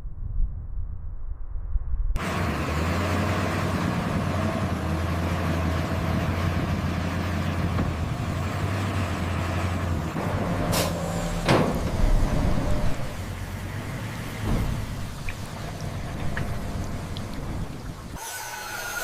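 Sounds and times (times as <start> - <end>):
vehicle engine droning: 2.2 - 18.2.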